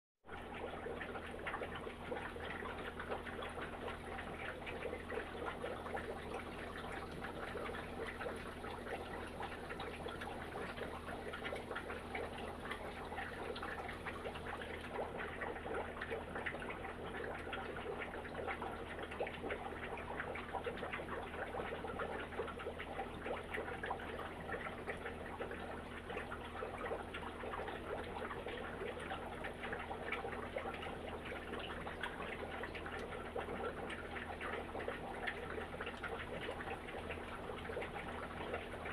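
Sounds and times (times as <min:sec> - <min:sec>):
aquarium water bubbling: 0:00.3 - 0:38.9
low steady hum: 0:00.3 - 0:38.9.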